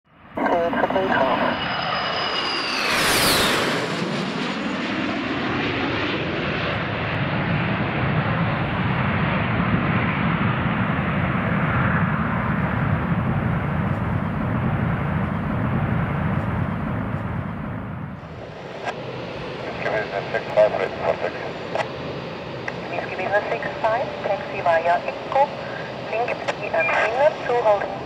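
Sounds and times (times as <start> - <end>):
jet engines running: 0.2 - 28.0.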